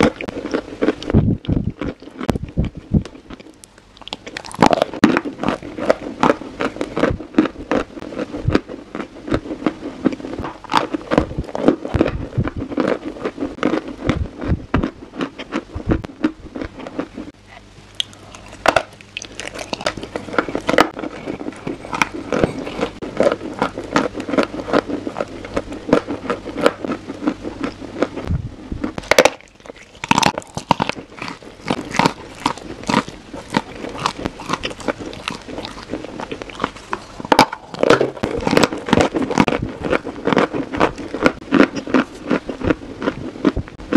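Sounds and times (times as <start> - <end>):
mouth crunching and chewing: 0.0 - 43.9.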